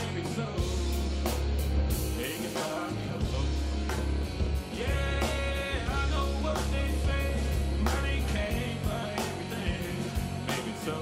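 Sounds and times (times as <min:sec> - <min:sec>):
drum kit: 0:00.0 - 0:11.0
electric bass guitar: 0:00.0 - 0:11.0
electric guitar: 0:00.0 - 0:11.0.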